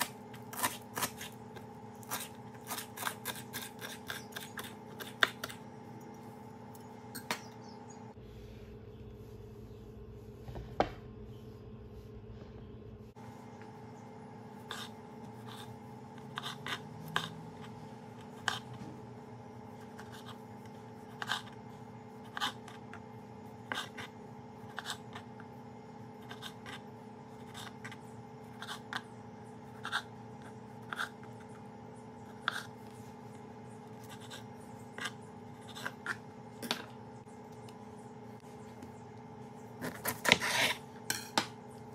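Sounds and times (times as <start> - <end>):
low hum: 4.0 - 41.9.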